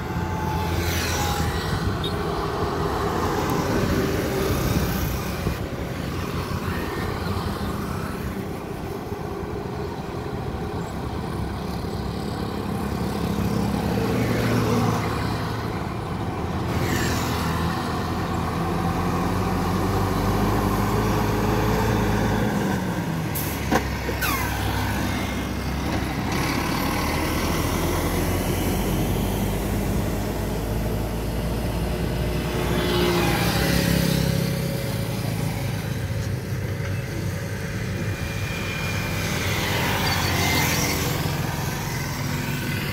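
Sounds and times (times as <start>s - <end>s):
motorbikes and scooters passing: 0.0s - 42.9s
rushing noise of passing truck: 0.0s - 42.9s.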